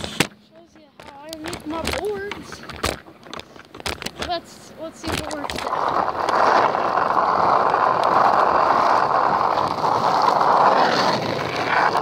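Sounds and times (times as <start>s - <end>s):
longboard wheels rolling on asphalt: 0.0s - 12.0s.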